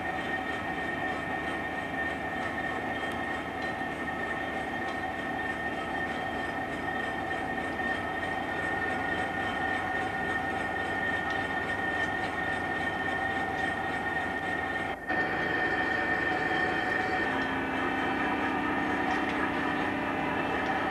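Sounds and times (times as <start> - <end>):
diesel crane engine droning: 0.0 - 20.9
held whine: 0.0 - 20.9.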